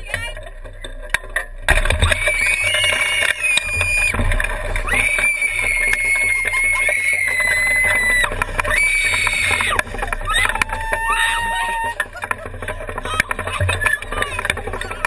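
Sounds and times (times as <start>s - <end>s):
riders screaming: 1.9s - 15.0s.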